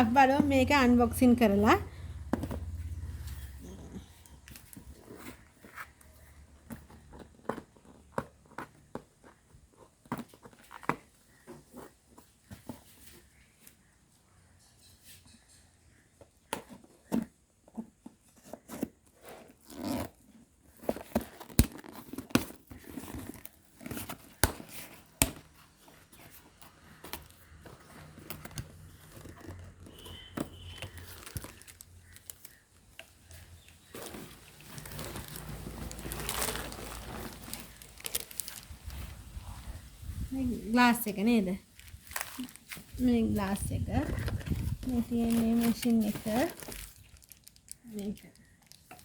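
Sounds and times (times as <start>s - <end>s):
packaging knocks and handling: 0.0s - 3.6s, 4.4s - 13.8s, 16.2s - 39.7s, 40.7s - 49.0s
packaging crinkling and tearing: 2.4s - 11.9s, 18.4s - 39.8s, 40.7s - 49.0s.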